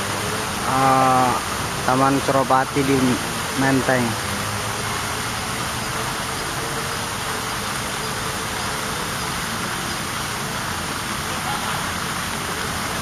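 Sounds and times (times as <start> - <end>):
city traffic noise: 0.0 - 13.0.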